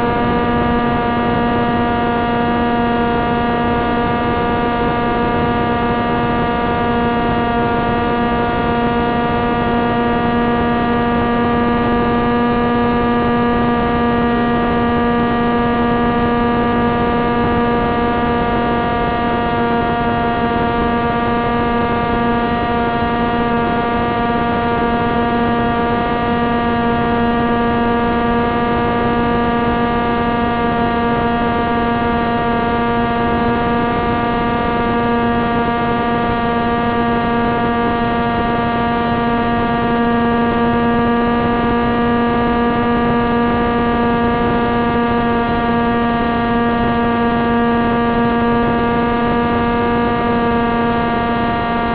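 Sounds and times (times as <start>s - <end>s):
propeller motor buzzing hum: 0.0s - 51.9s.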